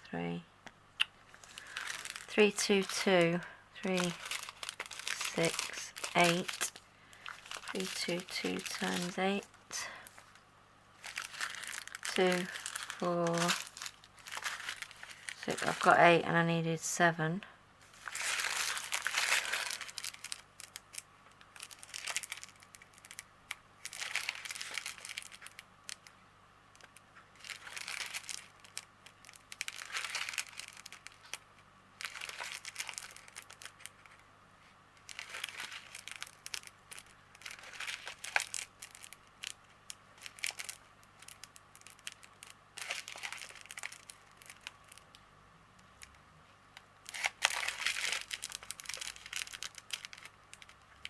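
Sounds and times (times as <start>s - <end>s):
plastic bags crinkling: 1.3s - 10.4s, 11.0s - 16.3s, 17.8s - 26.1s, 26.8s - 34.2s, 35.0s - 45.2s, 47.0s - 51.0s.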